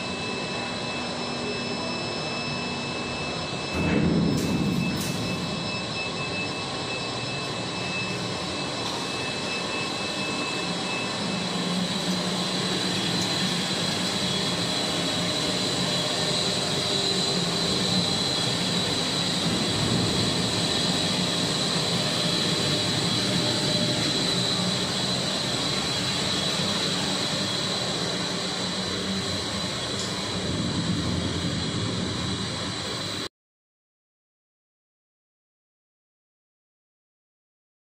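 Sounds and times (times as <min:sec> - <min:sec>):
low machinery hum: 0:00.0 - 0:33.2
continuous high whine: 0:00.0 - 0:33.3.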